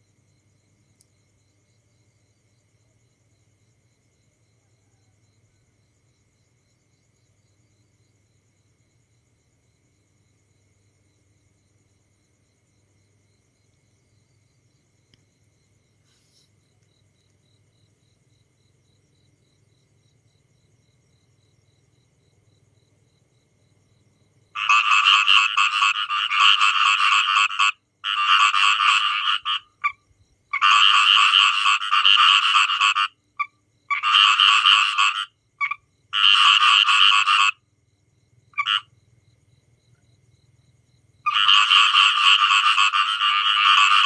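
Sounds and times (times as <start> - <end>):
frogs croaking: 0.0 - 44.0.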